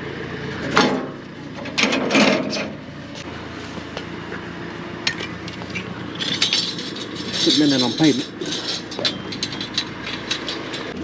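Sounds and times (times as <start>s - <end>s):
engine running at low speed: 0.0s - 11.0s.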